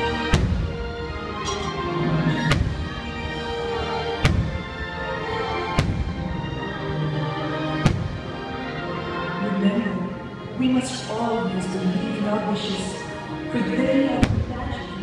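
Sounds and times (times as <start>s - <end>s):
music over loudspeakers: 0.0s - 15.0s.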